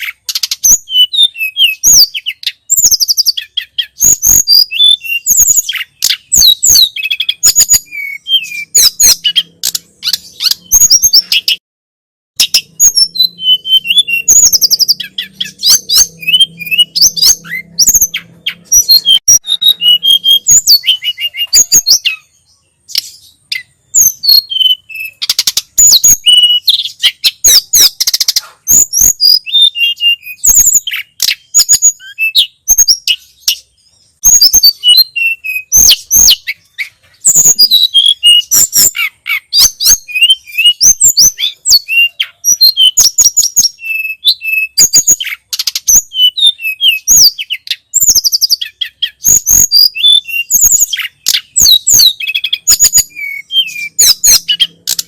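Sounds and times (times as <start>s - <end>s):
songbird chirping and whistling: 0.0s - 11.6s, 12.4s - 55.0s.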